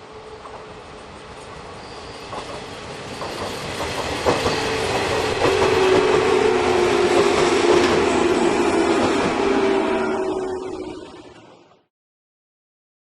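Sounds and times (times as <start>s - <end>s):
electric train passing: 0.0s - 11.9s.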